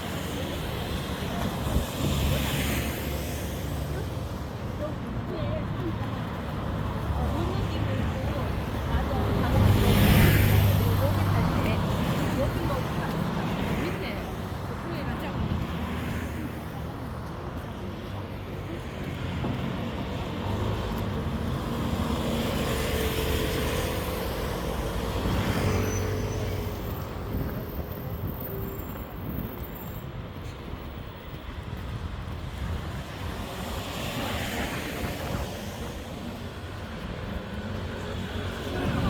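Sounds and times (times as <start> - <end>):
cars passing on street: 0.0 - 39.0.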